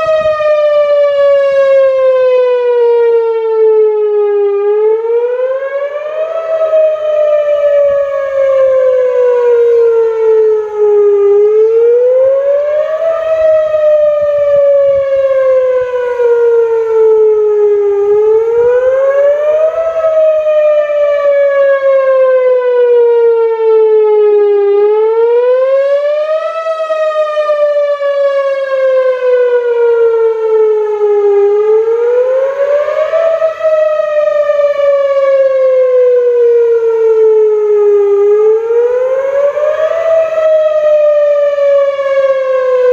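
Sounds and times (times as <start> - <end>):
warning siren wailing: 0.0 - 42.9.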